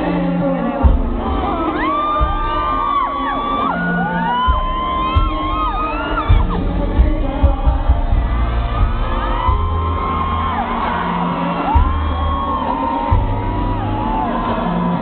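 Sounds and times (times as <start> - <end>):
concert music with heavy beat: 0.0 - 15.0
crowd screaming: 1.1 - 15.0.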